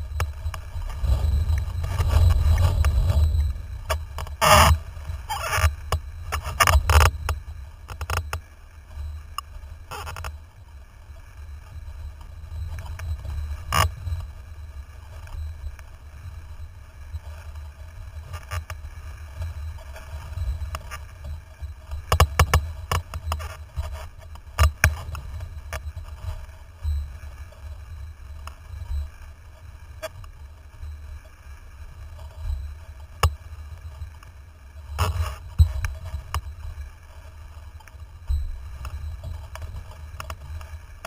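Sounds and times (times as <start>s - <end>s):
wind rumbling on camera: 0.0s - 41.0s.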